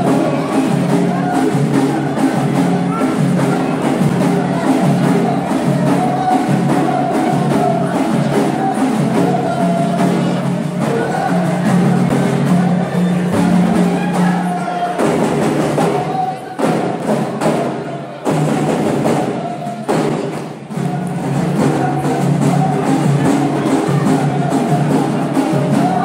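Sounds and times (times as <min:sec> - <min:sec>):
frame drums beating: 0:00.0 - 0:26.0.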